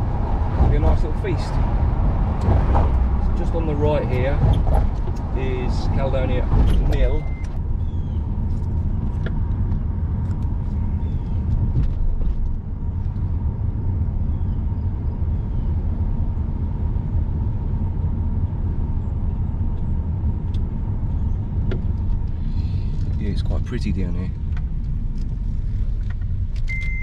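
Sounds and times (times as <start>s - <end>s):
engine and tyre rumble: 0.0s - 27.0s.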